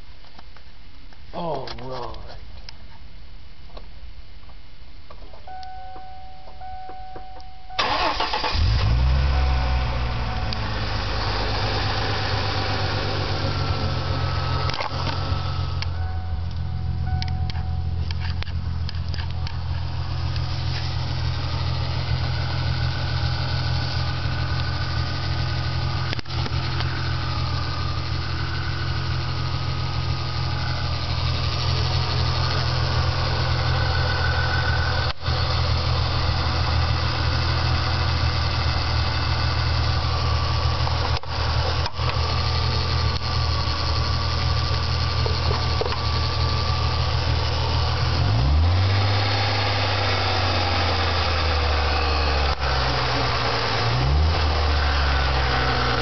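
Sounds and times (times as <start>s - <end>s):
car engine running: 7.8s - 56.0s.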